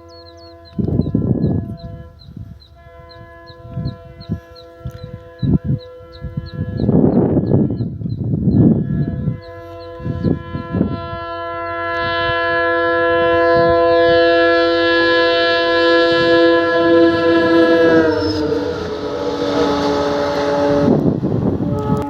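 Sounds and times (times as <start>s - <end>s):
locomotive horn blast: 0.0s - 7.8s, 8.6s - 22.0s.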